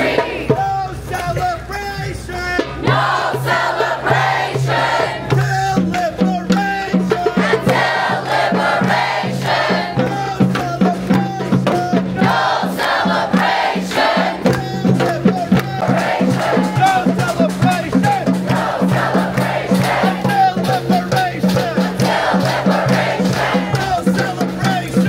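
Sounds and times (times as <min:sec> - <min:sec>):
crowd chanting slogans: 0:00.0 - 0:01.3, 0:02.5 - 0:25.0
steady low beat: 0:00.0 - 0:25.0.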